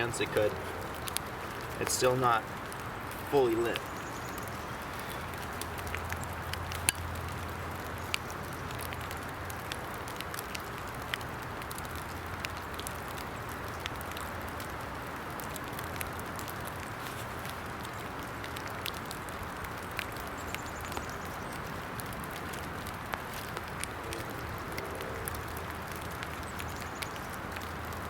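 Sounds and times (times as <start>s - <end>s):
small fire crackling and popping: 0.0s - 28.0s.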